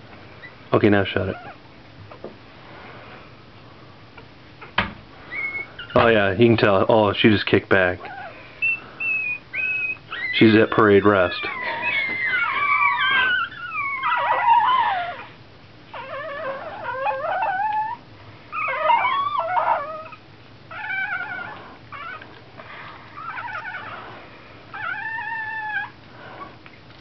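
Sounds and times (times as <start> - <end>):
puppies whining and crying: 0.3 - 2.4, 4.1 - 6.3, 8.0 - 27.0.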